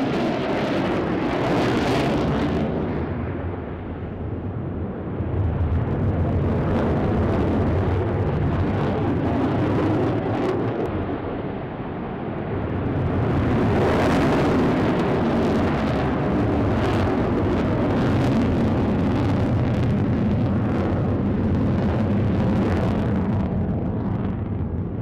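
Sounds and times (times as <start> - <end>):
fighter jet engine roar: 0.0 - 25.0.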